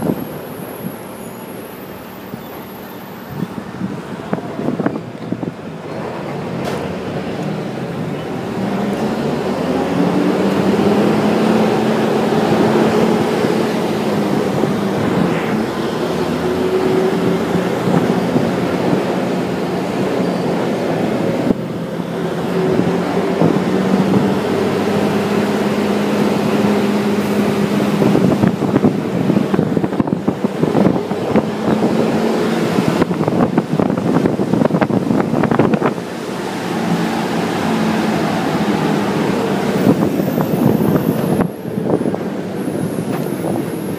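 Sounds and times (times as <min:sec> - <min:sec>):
road noise: 0:00.0 - 0:43.9
vehicle engine droning: 0:00.0 - 0:43.9.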